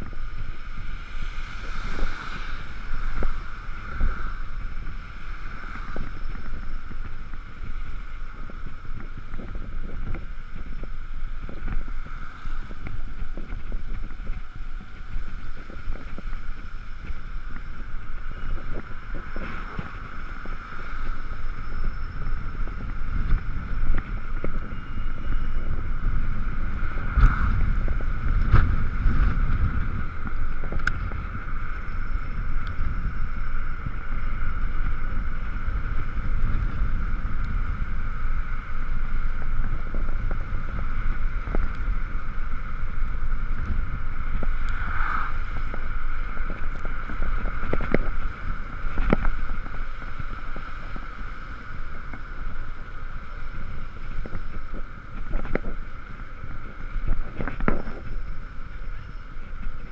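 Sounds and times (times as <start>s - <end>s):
high-pitched motor whine: 0.0s - 59.9s
road rumble: 0.0s - 59.9s
wind noise: 0.0s - 59.9s.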